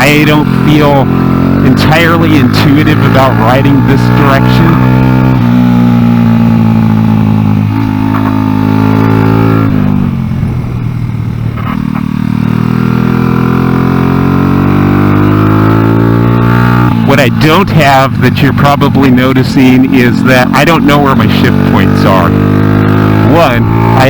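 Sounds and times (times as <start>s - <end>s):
minibike engine revving: 0.0s - 24.0s.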